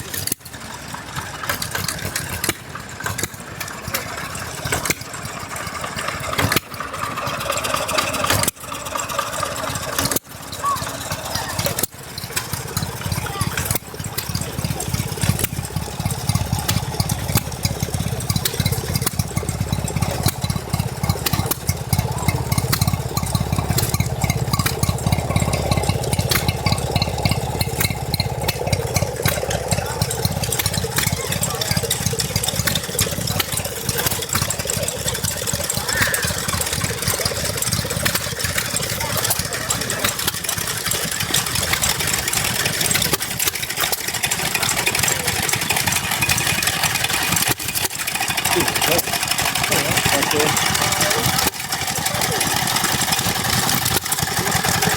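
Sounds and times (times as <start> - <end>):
stationary engine running: 0.0 - 54.9.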